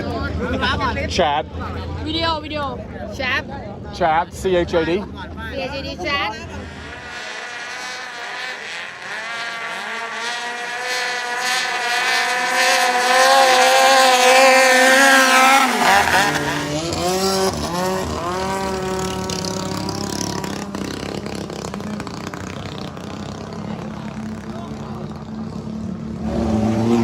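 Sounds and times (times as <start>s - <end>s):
boat engine at full throttle: 4.0s - 27.0s.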